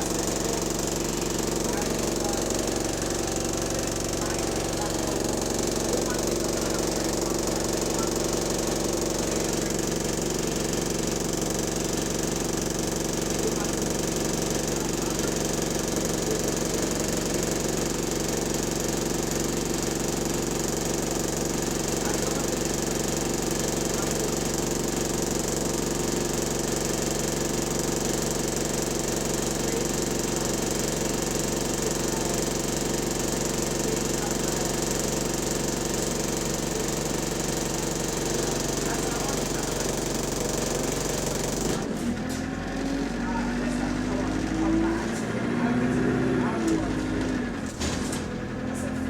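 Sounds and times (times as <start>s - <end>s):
bus diesel engine knocking: 0.0s - 41.8s.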